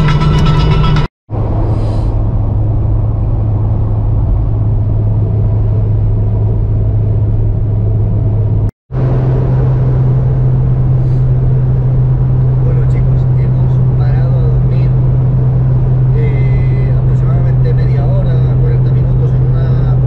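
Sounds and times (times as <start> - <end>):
car engine and road drone: 0.0 - 20.0.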